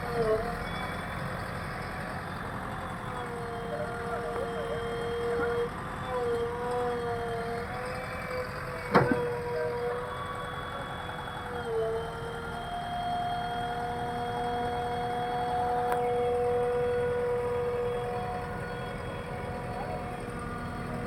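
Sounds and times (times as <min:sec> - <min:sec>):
backhoe loader engine whine: 0:00.0 - 0:21.0.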